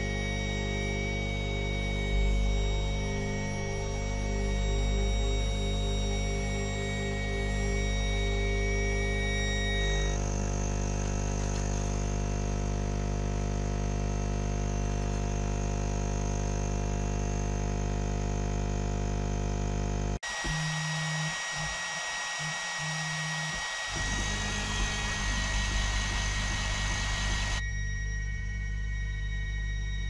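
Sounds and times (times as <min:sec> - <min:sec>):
high whine: 0:00.0 - 0:30.0
laser engraver fan hum: 0:00.0 - 0:30.0
stepper motor tones: 0:00.0 - 0:30.0.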